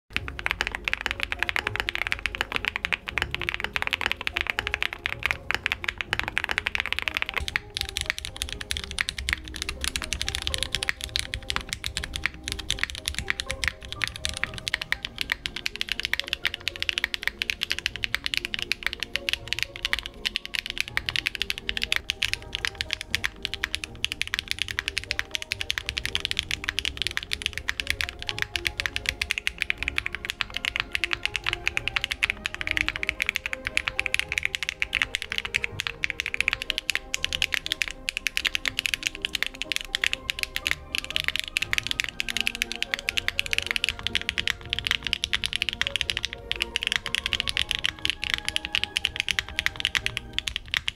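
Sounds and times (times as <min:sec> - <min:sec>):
background music: 0:00.1 - 0:50.9
mechanical keyboard typing: 0:00.1 - 0:50.9.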